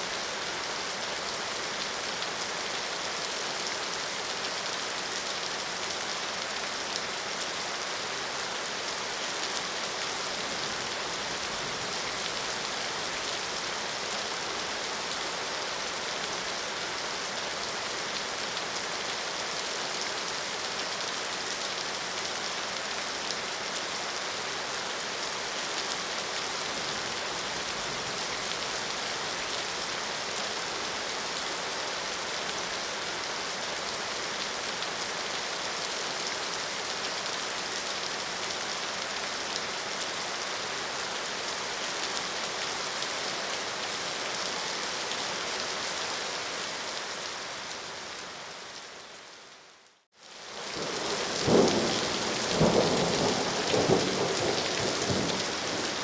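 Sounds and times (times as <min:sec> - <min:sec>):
rain: 0:00.0 - 0:56.0.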